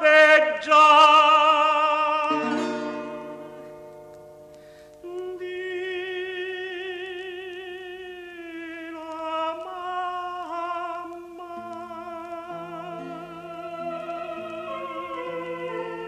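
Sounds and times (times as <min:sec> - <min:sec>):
operatic tenor singing: 0:00.0 - 0:02.9, 0:05.0 - 0:16.0.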